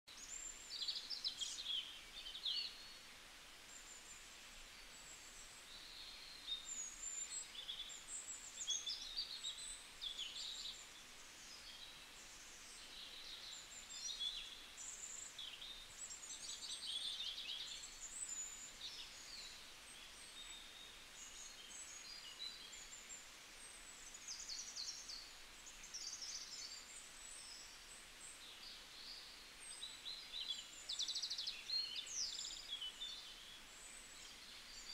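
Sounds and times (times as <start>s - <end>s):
low steady hiss: 0.1s - 34.9s.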